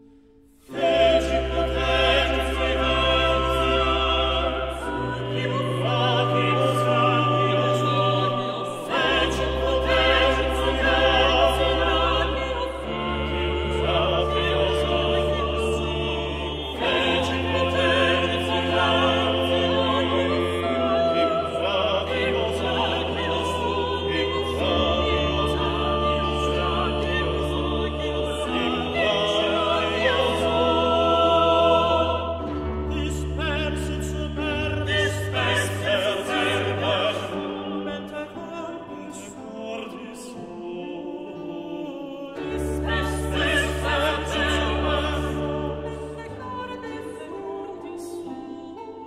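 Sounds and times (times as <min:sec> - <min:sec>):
choral singing with orchestra: 0:00.0 - 0:49.0.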